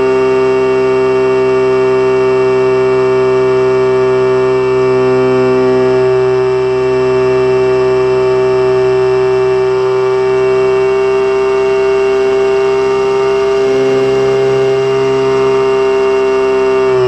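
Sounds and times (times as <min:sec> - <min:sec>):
electric motor and propeller whine: 0:00.0 - 0:17.0.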